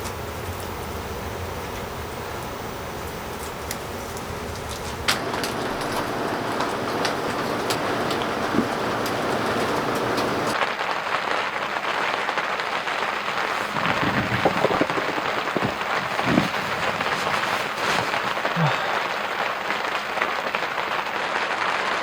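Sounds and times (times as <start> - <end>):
heavy rain on a tent: 0.0 - 22.0.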